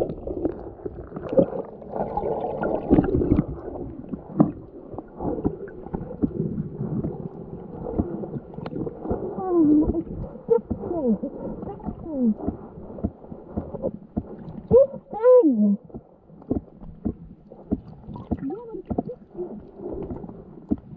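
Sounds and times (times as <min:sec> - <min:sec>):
underwater water sloshing: 0:00.0 - 0:20.9.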